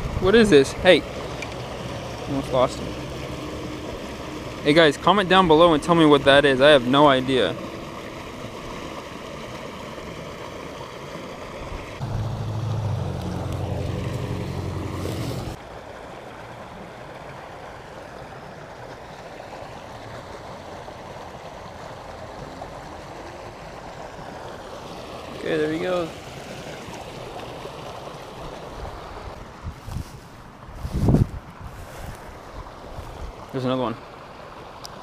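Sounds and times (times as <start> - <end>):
low engine hum: 0.0 - 33.5
traffic: 0.0 - 35.0
wind: 0.0 - 35.0.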